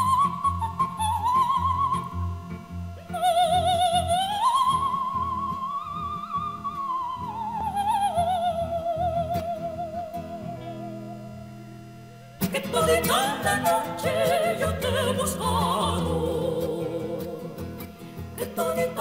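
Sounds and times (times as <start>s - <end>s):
high wavering lead melody: 0.0s - 19.0s.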